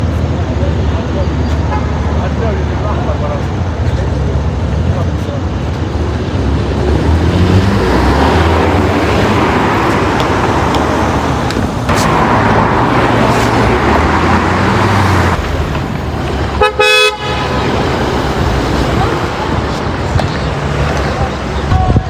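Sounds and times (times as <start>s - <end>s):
car engine and exhaust running: 2.4s - 21.8s.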